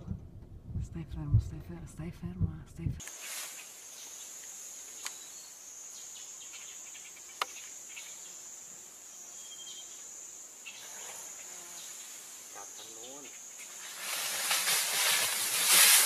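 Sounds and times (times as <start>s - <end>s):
high-pitched insect chorus: 3.0s - 16.0s.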